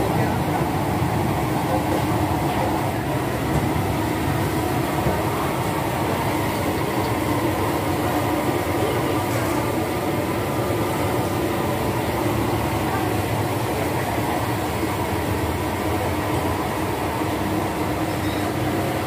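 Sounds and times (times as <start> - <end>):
gas burner rushing: 0.0 - 19.0.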